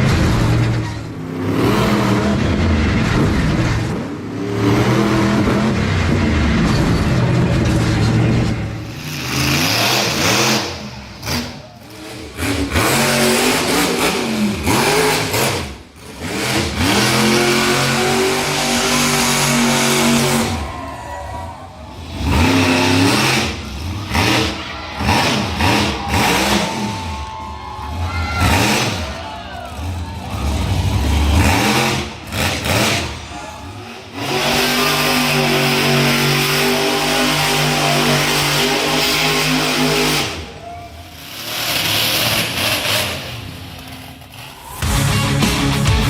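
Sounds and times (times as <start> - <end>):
monster truck engines revving: 0.0 - 46.0.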